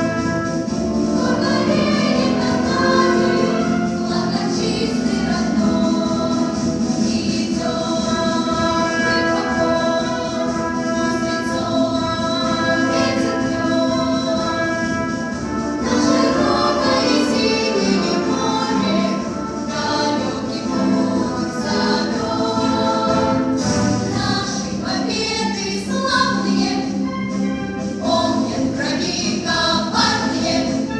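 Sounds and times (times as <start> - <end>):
children's choir singing a march: 0.0 - 30.9
pop ensemble accompaniment: 0.0 - 30.9.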